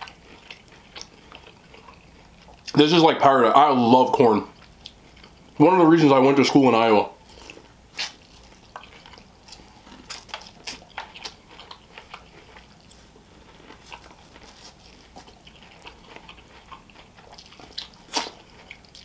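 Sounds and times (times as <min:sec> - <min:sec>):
man chewing corn: 0:00.0 - 0:03.0, 0:04.1 - 0:05.6, 0:06.4 - 0:19.0.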